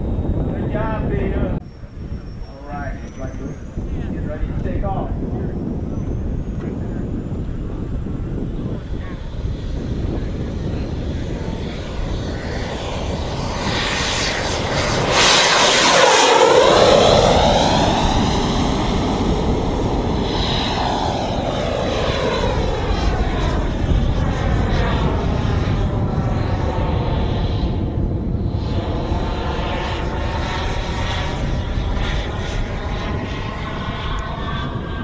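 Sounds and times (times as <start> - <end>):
jet turbine engine whine: 0.0 - 35.0.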